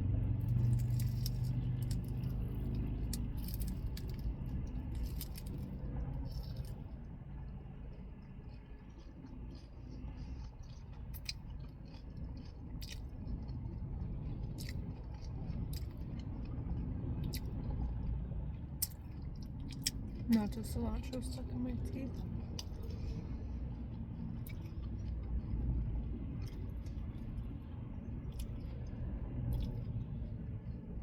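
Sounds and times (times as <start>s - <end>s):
steady low rumble: 0.0s - 31.0s
crunchy chewing: 0.4s - 20.6s, 21.8s - 31.0s.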